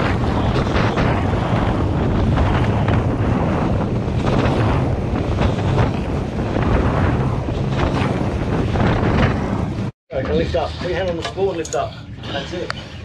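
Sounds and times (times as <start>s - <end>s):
low drone: 0.0s - 13.0s
wind buffeting microphone: 0.0s - 13.0s.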